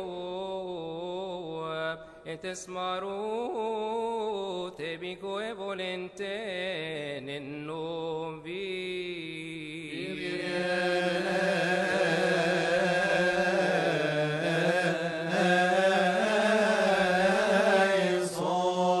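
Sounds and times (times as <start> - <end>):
man chanting melismatically: 0.0 - 19.0.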